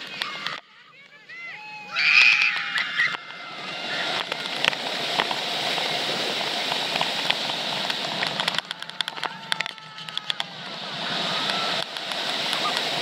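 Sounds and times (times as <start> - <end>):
roller coaster clicks and rattles: 0.0 - 13.0.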